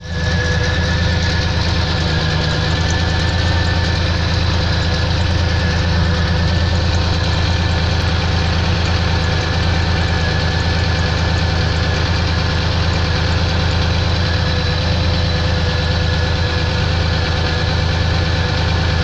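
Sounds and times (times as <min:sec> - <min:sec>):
car engine idling with knock: 0:00.0 - 0:19.0.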